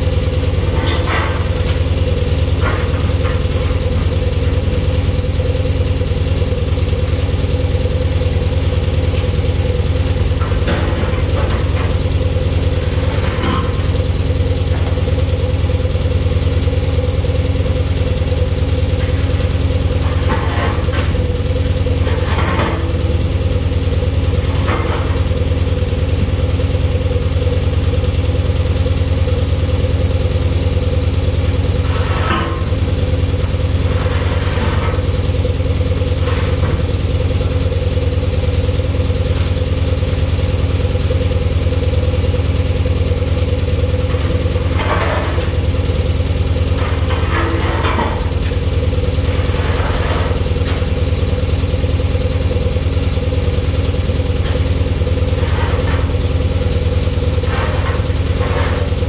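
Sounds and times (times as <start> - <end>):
crane engine idling: 0.0 - 59.0.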